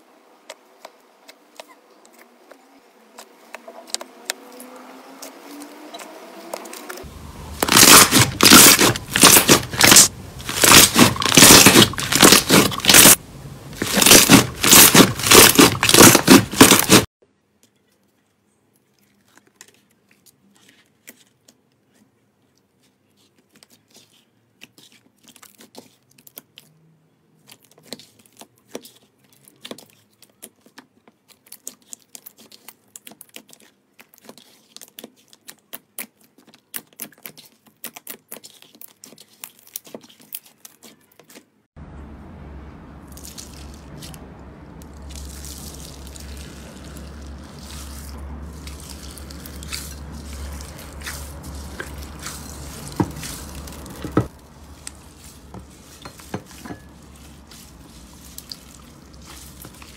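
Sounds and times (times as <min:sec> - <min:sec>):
hands squishing wet slime: 0:07.0 - 0:17.1, 0:19.1 - 0:26.7, 0:27.4 - 0:41.4, 0:43.1 - 0:59.9.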